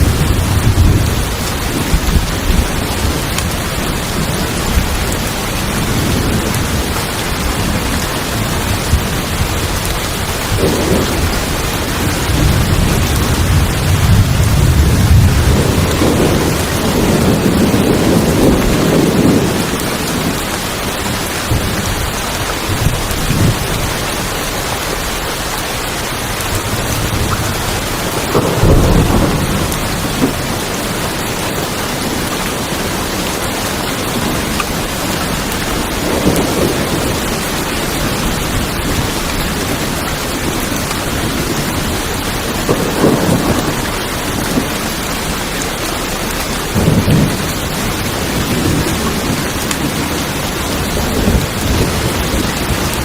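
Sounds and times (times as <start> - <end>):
heavy rain on tin roofs: 0.0 - 53.0
thunder rumbling: 0.0 - 53.0.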